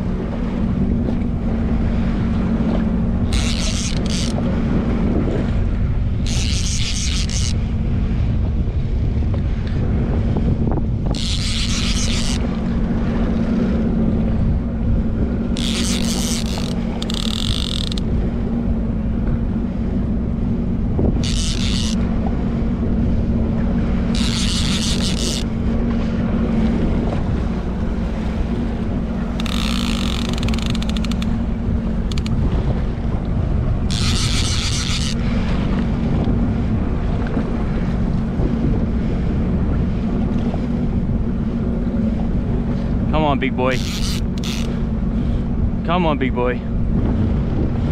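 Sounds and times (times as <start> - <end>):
jetski engine running: 0.0 - 47.9
wind buffeting microphone: 0.0 - 47.9.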